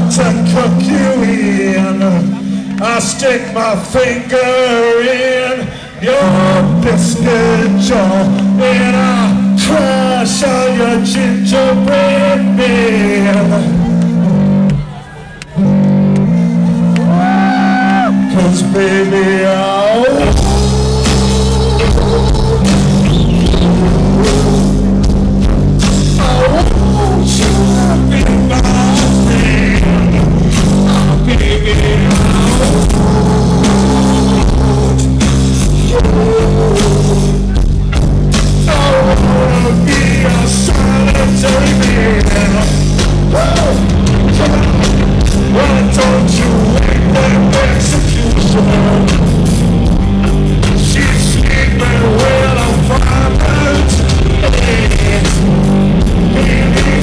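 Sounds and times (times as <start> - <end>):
live rock band playing: 0.0 - 5.0, 5.6 - 57.0
wailing lead guitar line: 0.0 - 57.0.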